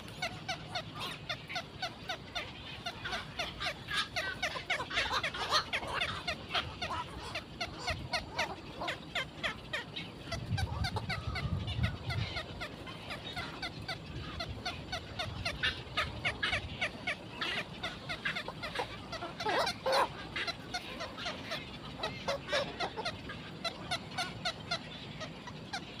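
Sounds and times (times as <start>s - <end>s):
many birds chirping: 0.0s - 26.0s.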